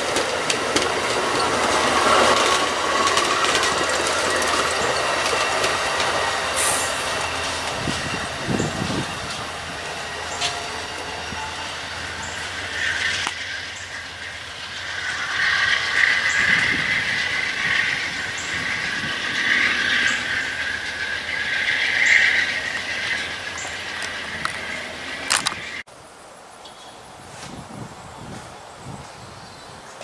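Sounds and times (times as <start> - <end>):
wheels clicking over rail joints: 0.0 - 25.9
high wheel squeal: 0.8 - 25.8.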